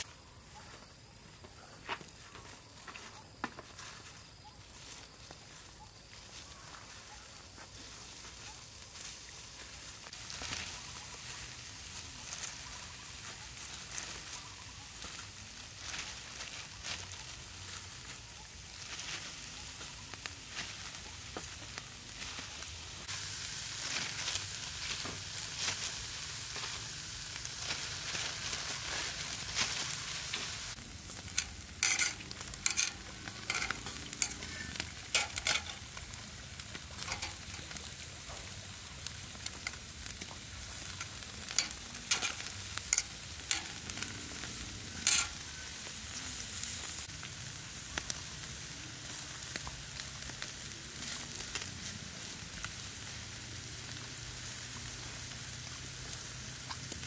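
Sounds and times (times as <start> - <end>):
food sizzling in a pan: 6.3 - 57.0.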